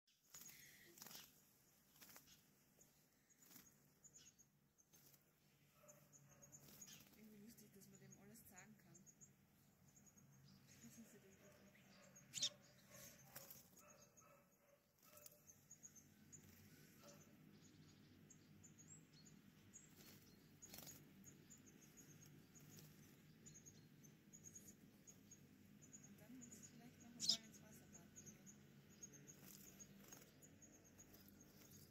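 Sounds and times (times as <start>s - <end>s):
faint bird chirps: 0.1s - 31.9s.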